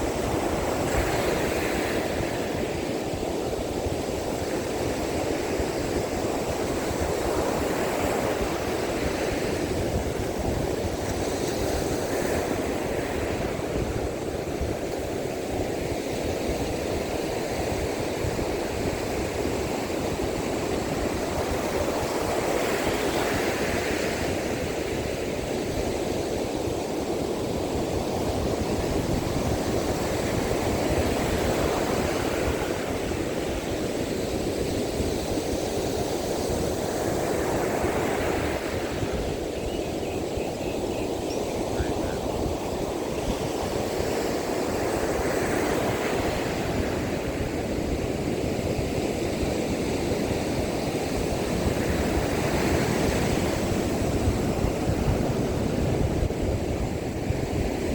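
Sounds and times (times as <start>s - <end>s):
waves washing onto beach: 0.0s - 57.9s
wind buffeting microphone: 0.0s - 57.9s.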